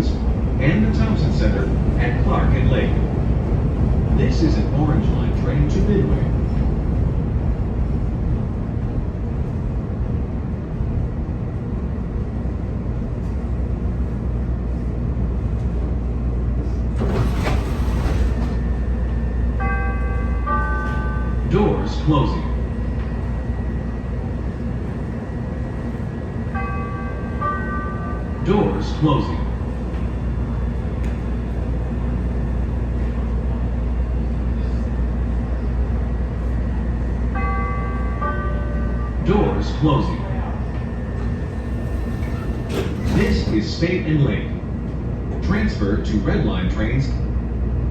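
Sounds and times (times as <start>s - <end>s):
train car rumble and hum: 0.0s - 47.9s.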